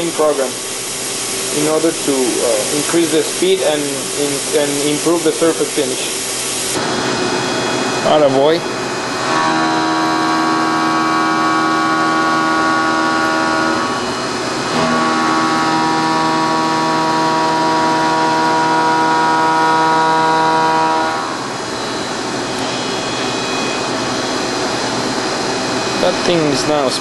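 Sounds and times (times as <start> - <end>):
end mill machining whine: 0.0 - 27.0.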